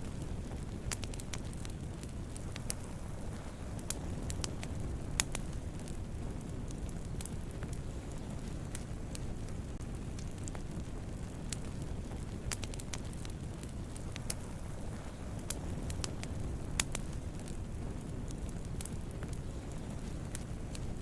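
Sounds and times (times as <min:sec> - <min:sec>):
burning wood popping: 0:00.0 - 0:21.0
low rumble of burning fire: 0:00.0 - 0:21.0.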